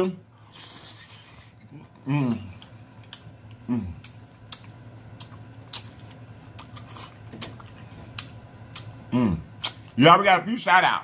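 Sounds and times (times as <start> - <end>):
chewing and lip-smacking: 0.6 - 10.0.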